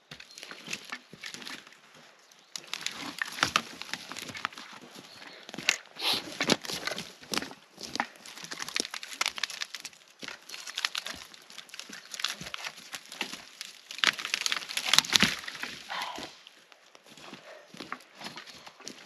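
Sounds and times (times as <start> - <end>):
crackling and snapping: 2.4 - 19.0.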